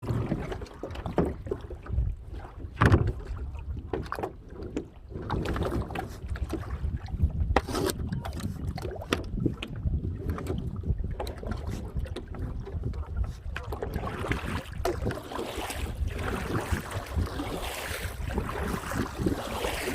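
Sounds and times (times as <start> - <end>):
water splashing from paddling: 0.0 - 19.9
wind rumbling on microphone: 0.0 - 19.9.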